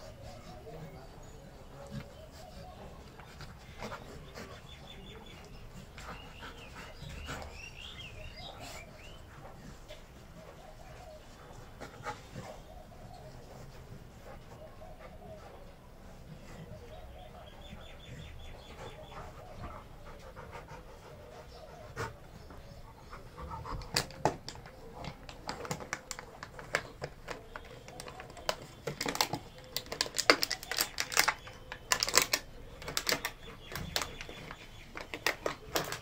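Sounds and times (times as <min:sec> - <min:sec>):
dogs panting: 0:00.0 - 0:36.0.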